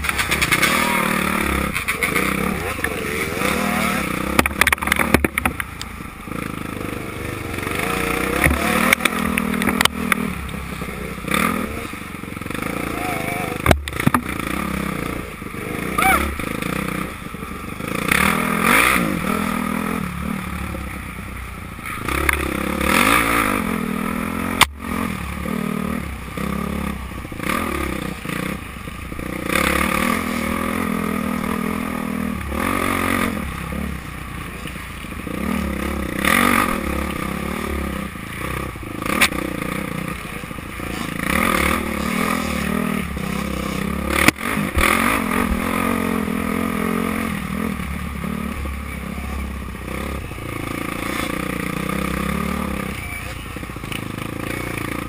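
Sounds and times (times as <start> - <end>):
bike scraping and rattling: 0.0 - 19.7, 26.3 - 47.5, 48.2 - 55.0
dirt bike engine revving: 0.0 - 55.0.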